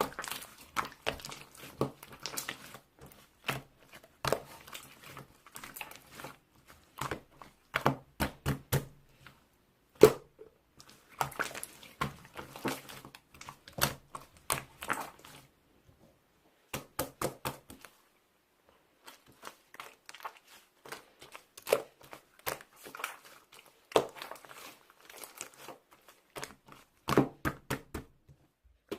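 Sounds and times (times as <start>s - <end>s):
slime squished by hand: 0.0s - 9.0s, 10.0s - 15.4s, 19.0s - 28.1s.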